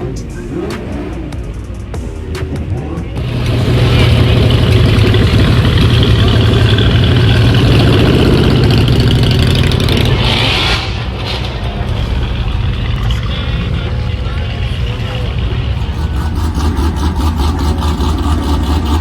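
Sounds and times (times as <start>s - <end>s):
loud car engine running: 0.0s - 19.0s.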